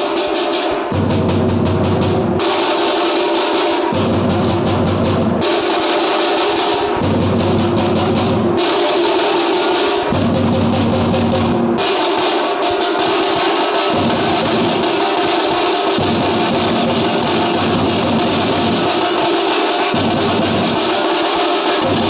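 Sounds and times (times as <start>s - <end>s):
drum-led music: 0.0s - 22.0s.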